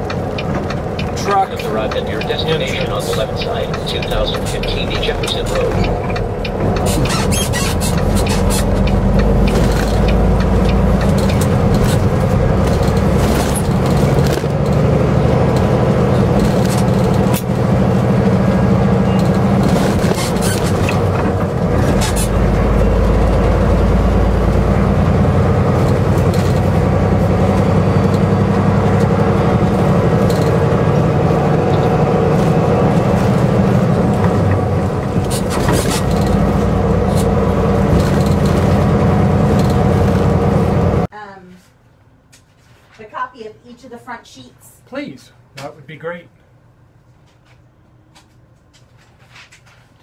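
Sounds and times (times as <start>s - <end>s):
truck diesel engine drone: 0.0s - 41.1s
road noise: 0.0s - 41.3s.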